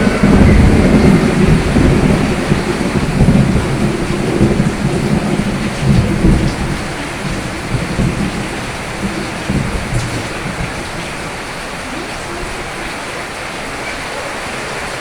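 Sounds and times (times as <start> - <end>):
rolling thunder rumble: 0.0 - 15.0
steady rain: 0.0 - 15.0.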